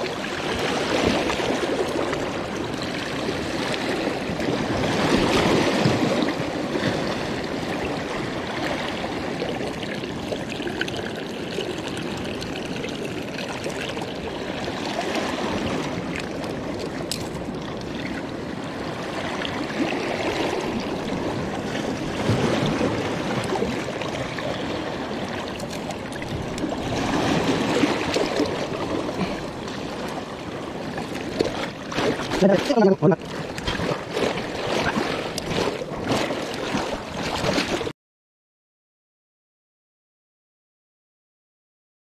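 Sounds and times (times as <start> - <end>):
seawater washing around rocks: 0.0 - 37.9.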